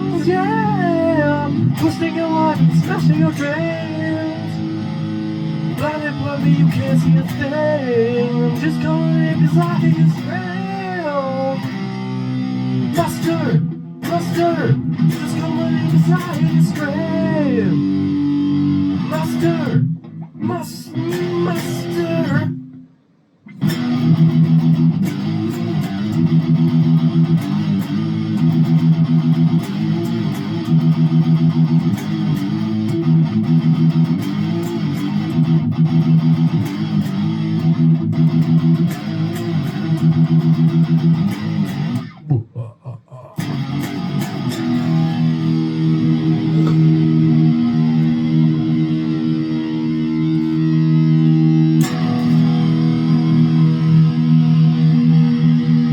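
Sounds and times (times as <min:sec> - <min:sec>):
heavy metal guitar and bass riff: 0:00.0 - 0:22.7, 0:23.5 - 0:42.4, 0:43.2 - 0:55.9.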